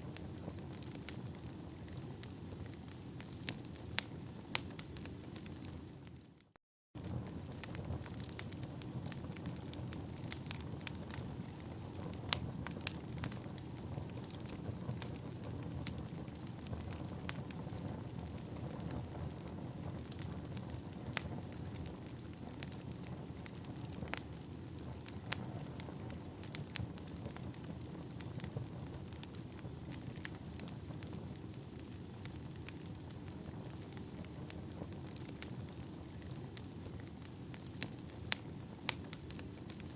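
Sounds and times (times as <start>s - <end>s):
low rush of flames: 0.0s - 6.3s, 7.0s - 39.9s
burning logs popping and snapping: 0.1s - 6.3s, 7.0s - 39.9s.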